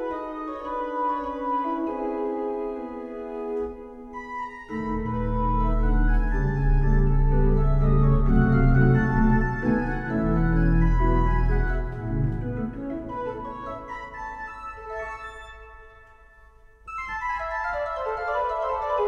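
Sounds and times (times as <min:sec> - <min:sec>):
organ playing ragtime: 0:00.0 - 0:16.2, 0:16.9 - 0:19.0.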